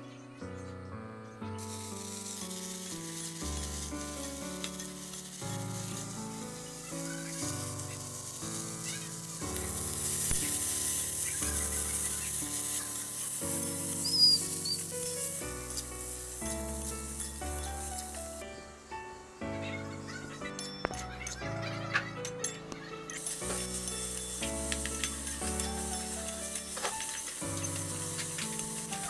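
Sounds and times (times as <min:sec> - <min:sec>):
background music: 0:00.0 - 0:29.0
vegetables sizzling in hot oil: 0:01.6 - 0:29.0.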